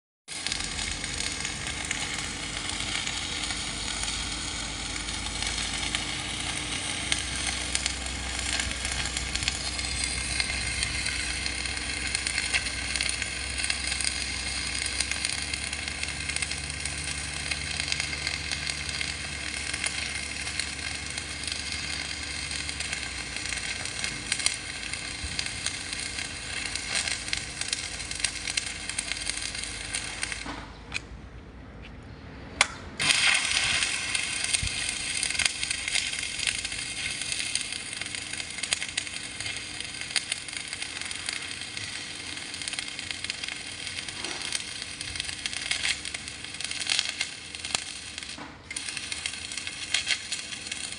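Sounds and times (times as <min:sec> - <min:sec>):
arc welding crackle: 0:00.3 - 0:31.1, 0:32.6 - 0:50.9.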